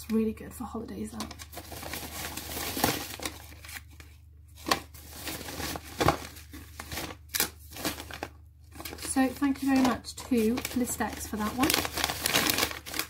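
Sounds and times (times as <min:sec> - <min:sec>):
packaging rustling and crinkling: 0:01.2 - 0:13.0
sharp packaging crackles: 0:01.3 - 0:13.0.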